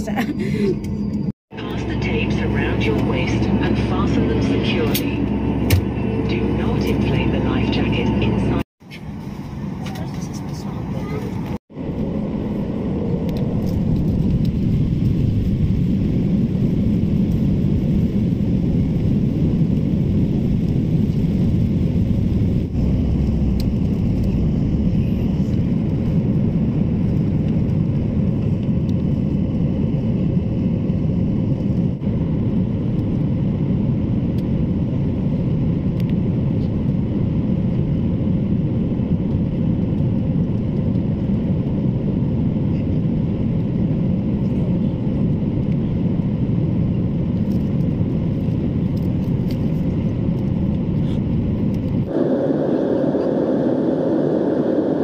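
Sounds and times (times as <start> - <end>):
jet engines low roar: 0.0 - 55.0.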